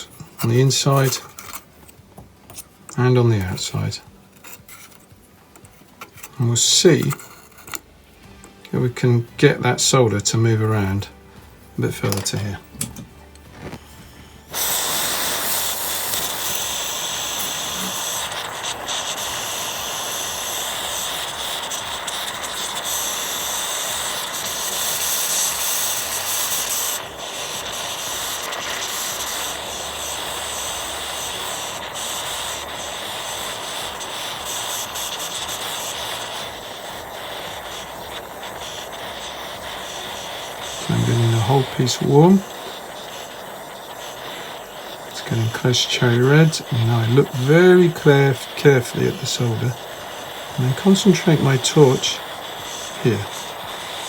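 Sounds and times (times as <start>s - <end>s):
torch flame hissing: 0.0s - 54.0s
torch igniting: 0.0s - 54.0s.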